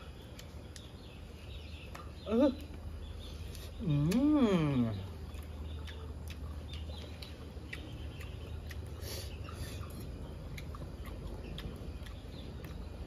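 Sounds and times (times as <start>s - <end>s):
person chewing food: 0.0s - 13.0s
steady low hum: 0.0s - 13.0s.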